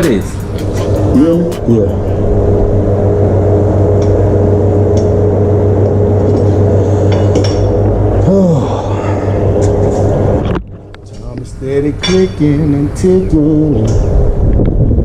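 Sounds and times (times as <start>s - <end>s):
loud mechanical hum: 0.0s - 15.0s.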